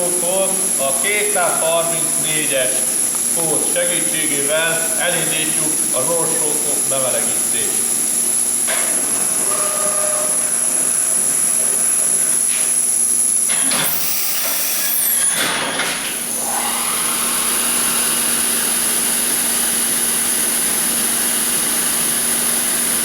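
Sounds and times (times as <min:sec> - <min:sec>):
milling machine spindle whine: 0:00.0 - 0:23.0.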